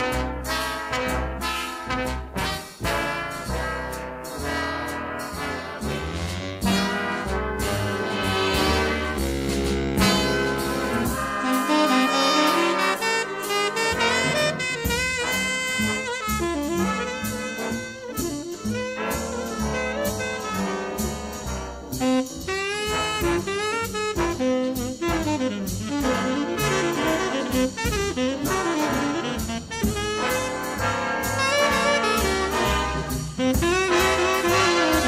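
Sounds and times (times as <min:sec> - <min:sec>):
jazz with brass and saxophone: 0:00.0 - 0:35.0.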